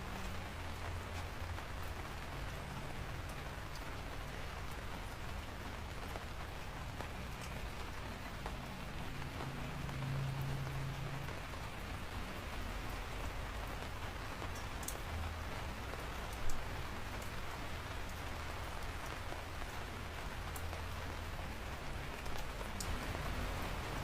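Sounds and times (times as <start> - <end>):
steady rain falling: 0.0 - 24.0
sharp drips ticking: 0.1 - 24.0.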